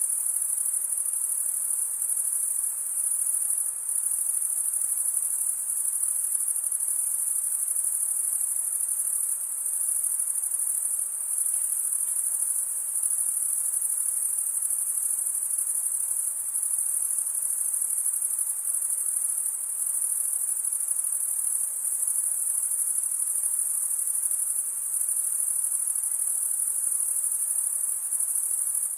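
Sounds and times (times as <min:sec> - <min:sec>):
crickets chirping: 0:00.0 - 0:28.9
faint low night hiss: 0:00.0 - 0:28.9.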